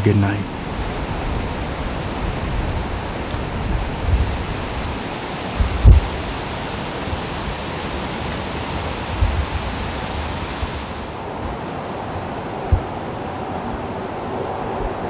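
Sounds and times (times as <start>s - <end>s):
wind blowing through woods: 0.0s - 15.0s
wind buffeting microphone: 0.5s - 15.0s.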